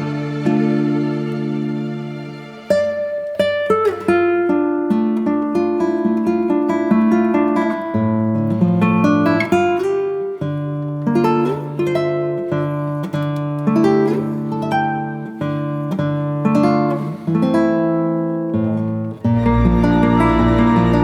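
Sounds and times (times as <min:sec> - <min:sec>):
fingerstyle acoustic guitar: 0:00.0 - 0:21.0.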